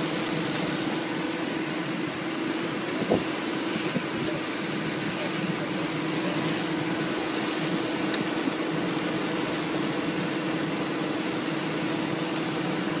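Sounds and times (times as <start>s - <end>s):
drilling rig humming: 0.0s - 13.0s
water gushing: 0.0s - 13.0s.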